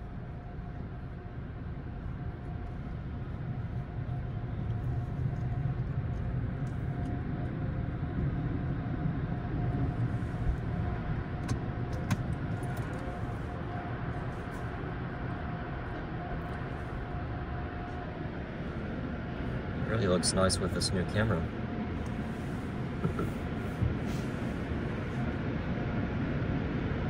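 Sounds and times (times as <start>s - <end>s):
car engine rumble: 0.0s - 27.0s
car wash machinery: 0.0s - 27.0s
faint steady hum: 0.0s - 27.0s.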